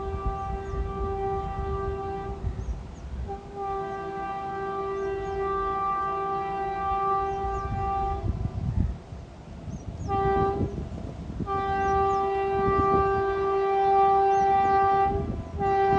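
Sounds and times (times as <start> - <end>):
locomotive horn blasts: 0.0 - 9.0, 10.0 - 15.9
low rumble of passing train: 0.0 - 15.9.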